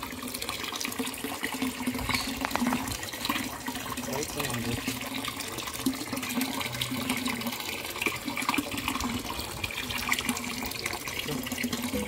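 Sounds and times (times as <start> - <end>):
water splashing into pond: 0.0 - 12.0.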